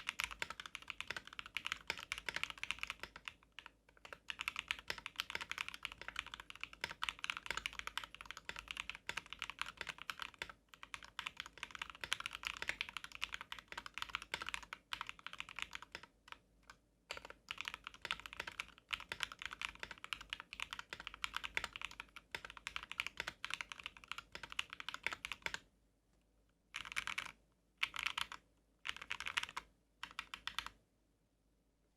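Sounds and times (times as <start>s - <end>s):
mechanical keyboard typing: 0.0s - 16.4s, 17.1s - 25.6s, 26.8s - 30.8s.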